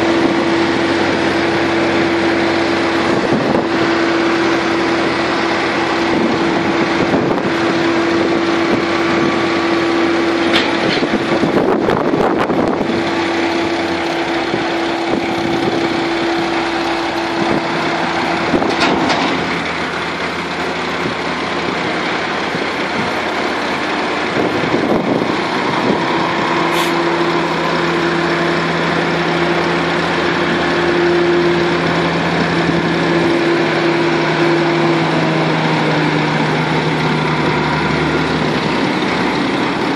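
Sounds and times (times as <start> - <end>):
diesel engines droning: 0.0 - 39.9.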